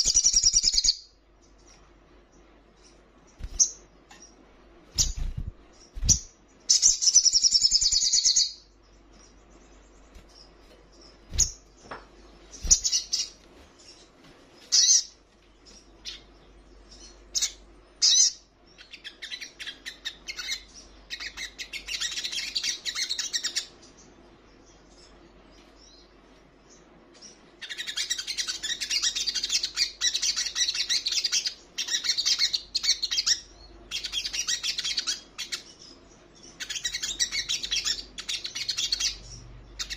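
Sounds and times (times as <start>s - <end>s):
bird singing high twittering: 0.0s - 25.2s, 27.2s - 39.9s.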